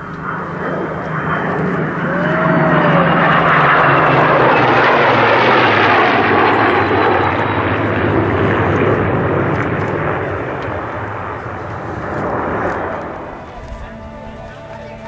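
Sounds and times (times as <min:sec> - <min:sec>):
jet roar: 0:00.0 - 0:15.0
piston engines droning: 0:00.0 - 0:15.0.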